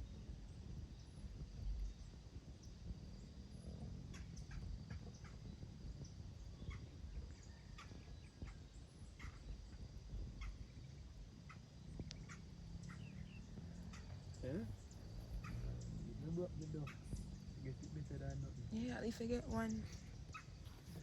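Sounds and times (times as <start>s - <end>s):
bird chirps: 0.0s - 21.0s
high insect-like hum: 0.0s - 21.0s
low wind rumble: 0.0s - 21.0s.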